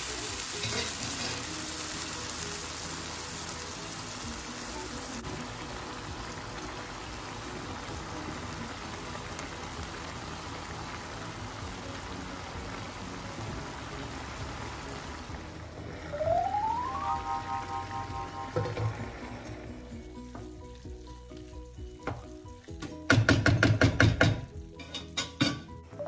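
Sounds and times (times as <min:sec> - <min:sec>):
broth simmering in a pan: 0:00.0 - 0:26.0.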